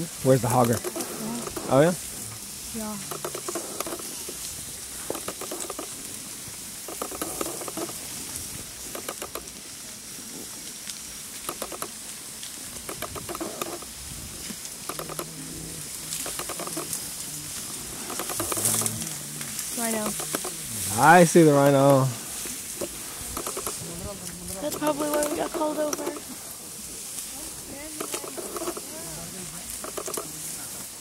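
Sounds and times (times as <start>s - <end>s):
tall grass rustling and crackling: 0.0s - 31.0s.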